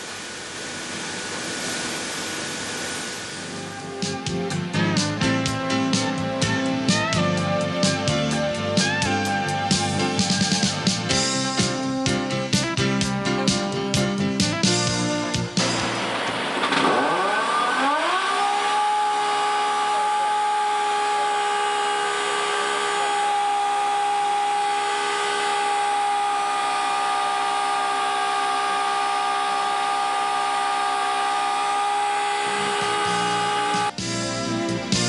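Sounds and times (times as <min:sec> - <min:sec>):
pneumatic grinder air motor whine: 0:00.0 - 0:11.1, 0:14.9 - 0:34.2.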